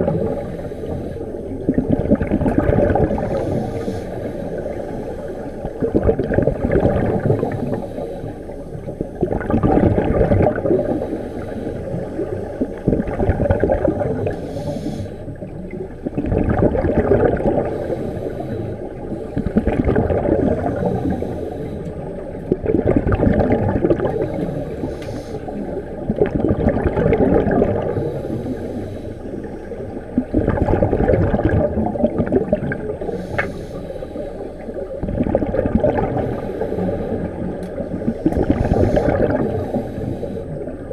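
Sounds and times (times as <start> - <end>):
underwater regulator bubbles: 0.0 - 40.9.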